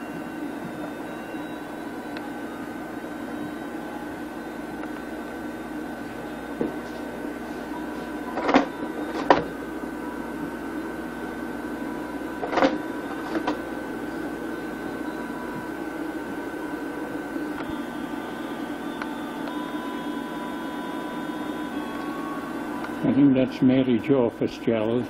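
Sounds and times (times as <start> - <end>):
mechanical hum with held tones: 0.0 - 25.0.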